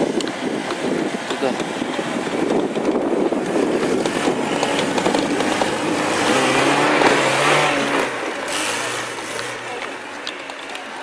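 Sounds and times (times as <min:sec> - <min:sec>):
car engine revving hard: 0:00.5 - 0:10.2.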